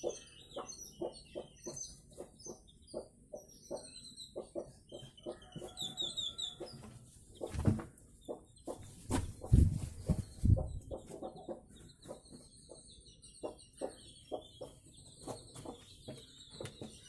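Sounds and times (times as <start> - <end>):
chickens clucking: 0.0 - 17.0
small birds chirping: 0.0 - 17.0.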